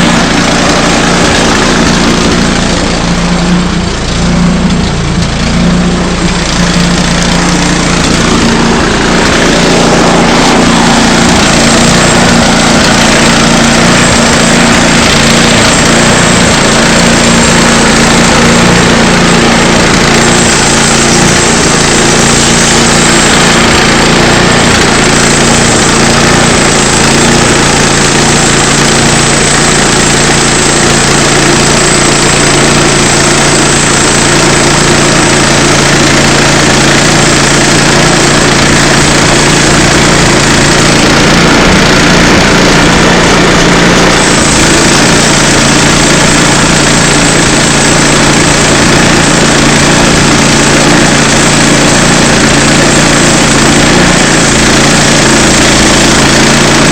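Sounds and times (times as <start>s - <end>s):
saw blade cutting log: 0.0s - 56.9s
small gasoline engine running: 0.0s - 56.9s.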